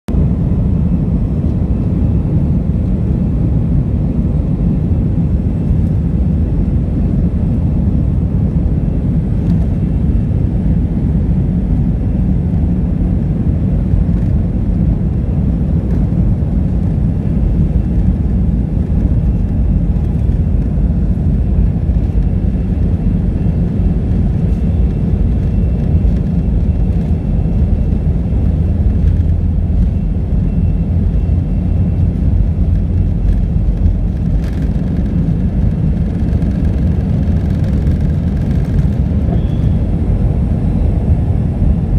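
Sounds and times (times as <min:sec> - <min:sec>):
faint engine whine: 0:00.1 - 0:41.9
jet engine rumble in cabin: 0:00.1 - 0:41.9.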